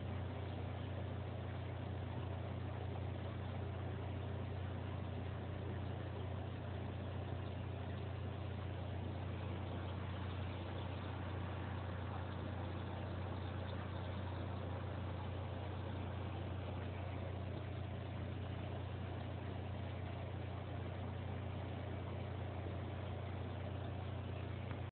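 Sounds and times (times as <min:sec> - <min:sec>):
aquarium equipment hum: 0:00.0 - 0:24.9.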